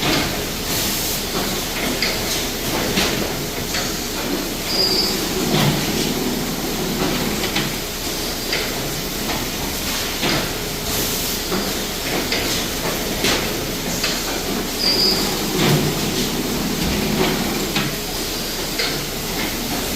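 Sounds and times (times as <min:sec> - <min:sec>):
bagging machine running: 0:00.0 - 0:19.9.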